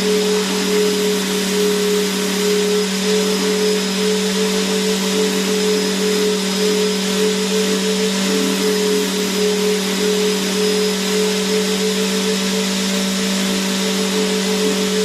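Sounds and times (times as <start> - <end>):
vacuum cleaner motor running: 0.0 - 15.0.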